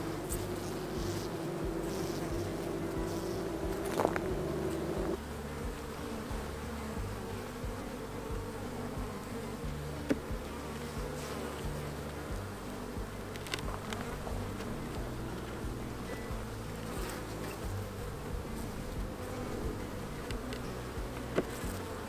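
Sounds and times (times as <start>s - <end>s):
bees buzzing around a hive: 0.0s - 22.0s
close bee buzz: 0.0s - 22.0s.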